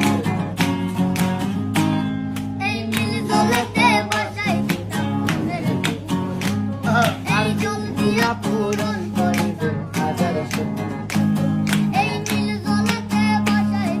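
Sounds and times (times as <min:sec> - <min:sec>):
instrumental music with guitar: 0:00.0 - 0:14.0.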